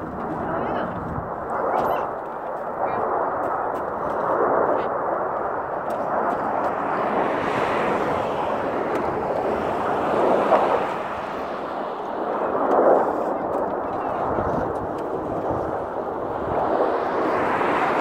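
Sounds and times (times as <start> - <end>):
aircraft engines roaring overhead: 0.0 - 18.0.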